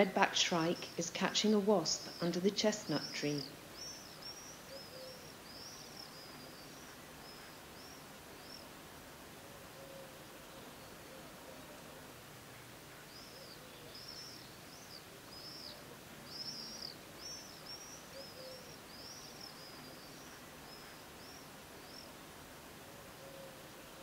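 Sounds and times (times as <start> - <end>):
faint background hiss: 0.0 - 24.0
songbird chirping: 0.0 - 24.0.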